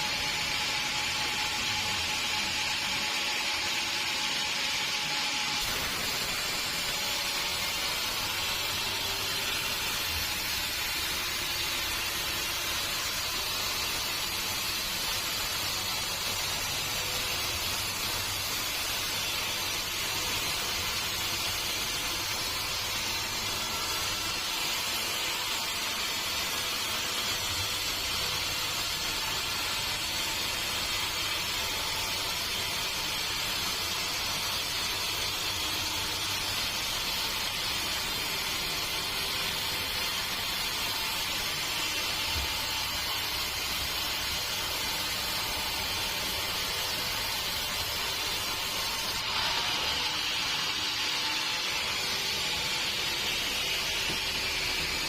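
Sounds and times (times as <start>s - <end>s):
sawmill machinery hissing: 0.0s - 55.0s.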